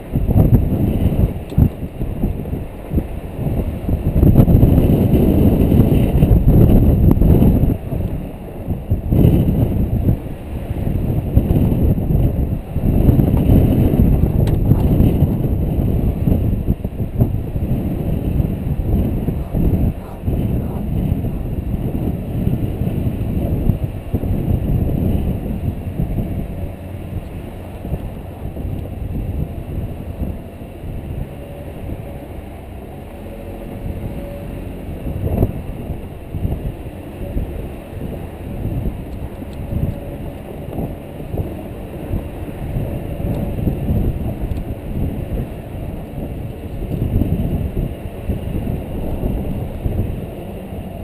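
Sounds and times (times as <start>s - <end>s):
car engine rumble: 0.0s - 51.0s
wind buffeting microphone: 0.0s - 51.0s.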